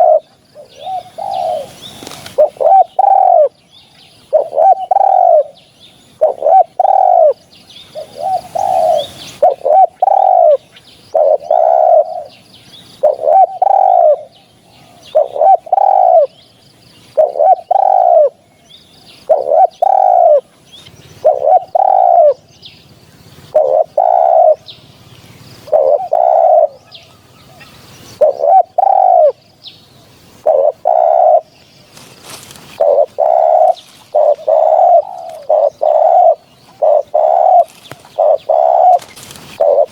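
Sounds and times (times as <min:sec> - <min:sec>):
dove cooing: 0:00.0 - 0:16.4, 0:17.1 - 0:18.5, 0:19.2 - 0:20.5, 0:21.1 - 0:29.4, 0:30.1 - 0:39.9
small birds chirping: 0:00.0 - 0:39.9.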